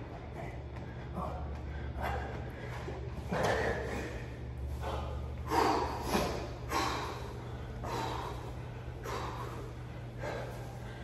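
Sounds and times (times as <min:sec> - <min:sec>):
man breathing hard: 0:00.0 - 0:11.0
steady low hum: 0:00.0 - 0:11.0.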